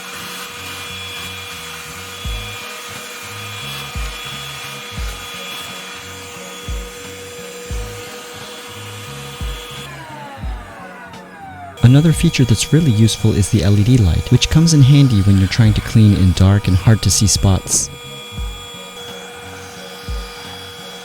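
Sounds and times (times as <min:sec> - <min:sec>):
handheld vacuum motor whine: 0:00.0 - 0:21.0
background music with beat: 0:02.2 - 0:21.0.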